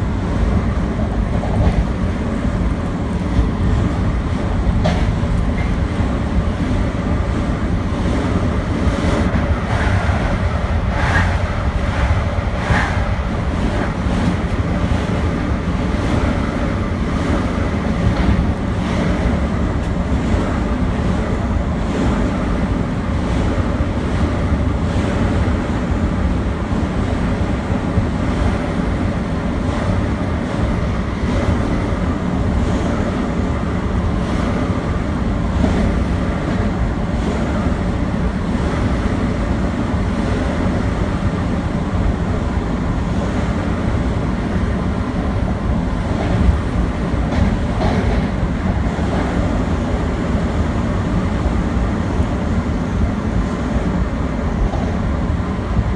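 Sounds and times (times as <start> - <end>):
train wheels rumbling: 0.0 - 55.9.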